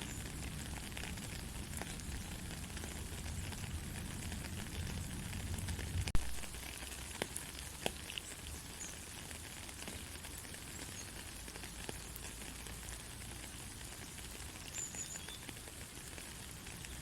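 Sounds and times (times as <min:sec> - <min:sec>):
raindrops ticking on a surface: 0:00.0 - 0:17.0
soft rain hiss: 0:00.0 - 0:17.0.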